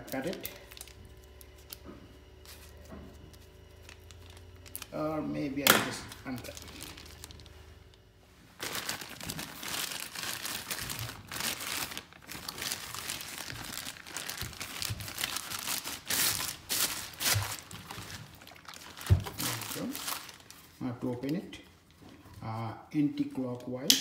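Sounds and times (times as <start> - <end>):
plastic bag crinkling: 0.0 - 22.1.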